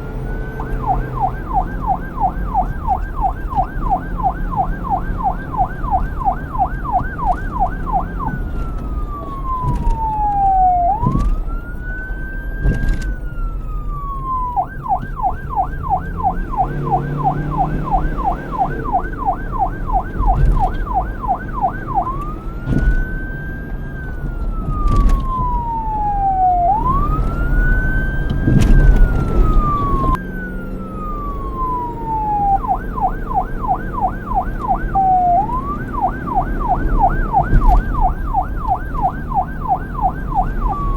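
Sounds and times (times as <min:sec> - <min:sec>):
low traffic rumble: 0:00.0 - 0:40.9
police siren wailing and yelping: 0:00.0 - 0:40.9.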